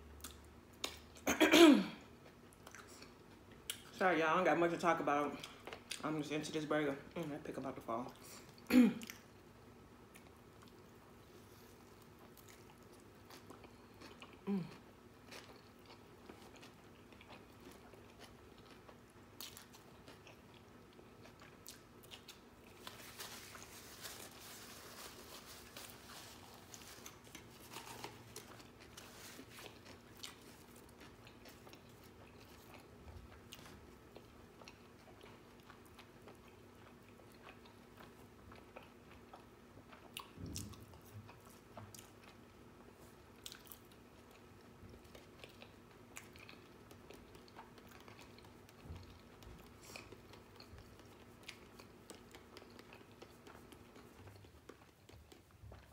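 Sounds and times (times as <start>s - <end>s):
person chewing food: 0.2s - 1.2s, 2.0s - 3.9s, 8.4s - 55.9s.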